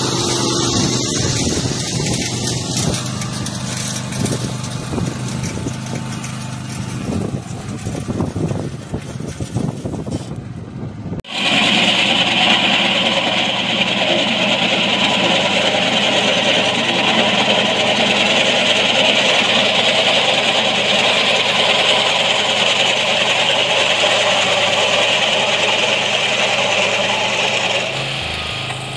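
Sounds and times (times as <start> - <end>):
tractor cutting tall grass: 0.0 - 10.4, 11.2 - 28.9
tractor engine running: 0.0 - 28.9.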